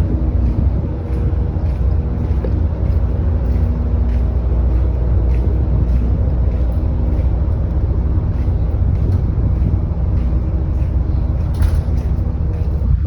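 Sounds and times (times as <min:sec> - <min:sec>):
faint constant hum: 0:00.0 - 0:13.0
ferry engines rumbling: 0:00.0 - 0:13.0.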